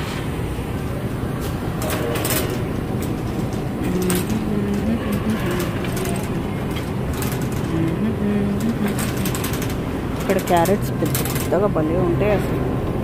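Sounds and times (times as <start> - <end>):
shopping cart rolling: 0.0 - 13.0
wire basket rattling: 1.8 - 12.5.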